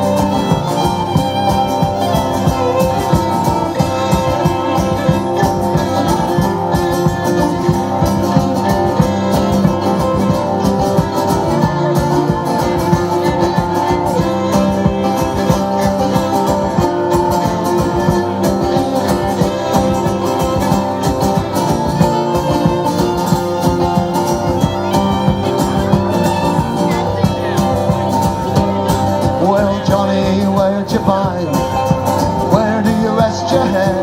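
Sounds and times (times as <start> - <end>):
folk band playing: 0.0 - 34.0
strummed guitar: 0.0 - 34.0.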